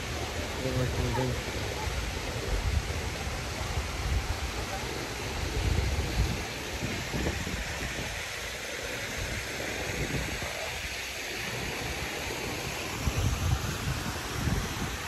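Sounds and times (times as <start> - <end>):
fountain jets splashing into pond: 0.0 - 15.0
wind rumbling on microphone: 0.0 - 15.0.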